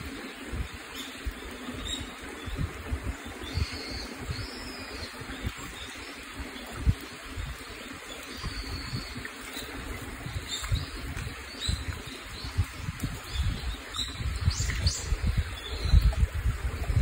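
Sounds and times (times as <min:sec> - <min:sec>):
small birds chirping: 0:00.0 - 0:17.0
stream trickling over rocks: 0:00.0 - 0:17.0.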